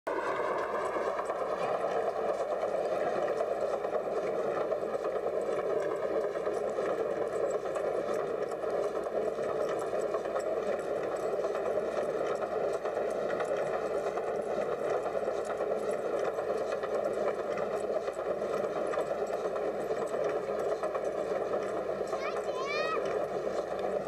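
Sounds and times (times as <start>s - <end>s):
wooden wheel rumbling and rattling: 0.7s - 24.0s.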